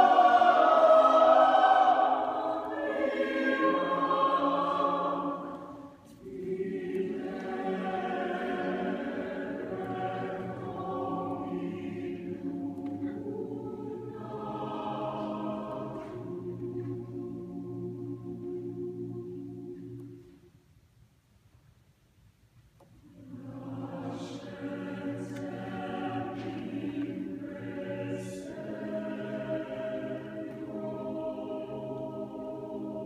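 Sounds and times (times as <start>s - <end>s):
mixed choir singing: 0.0s - 20.3s, 23.1s - 33.0s.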